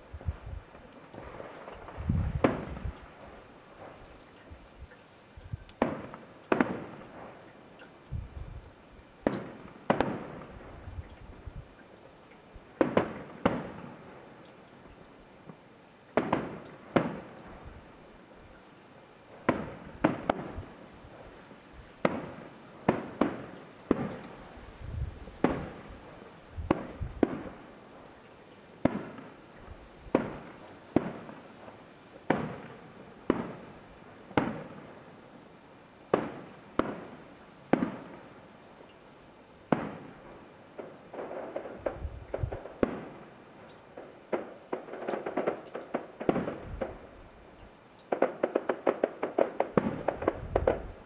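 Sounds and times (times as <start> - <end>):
distant fireworks bangs: 0.0 - 11.8, 12.6 - 14.3, 14.9 - 17.9, 19.3 - 28.2, 28.8 - 35.2, 36.1 - 38.4, 39.7 - 47.2, 48.0 - 51.0.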